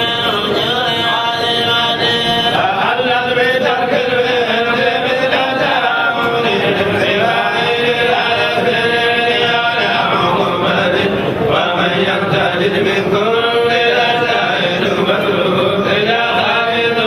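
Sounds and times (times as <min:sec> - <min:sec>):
male voices chanting: 0:00.0 - 0:17.0.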